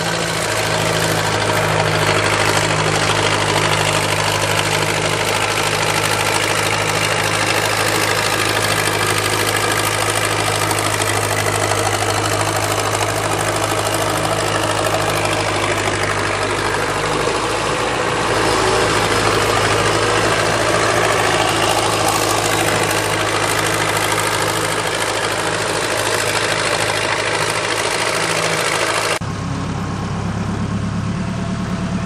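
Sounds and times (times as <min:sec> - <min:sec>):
diesel engine clattering: 0:00.0 - 0:32.0
smooth low engine hum: 0:00.0 - 0:32.0.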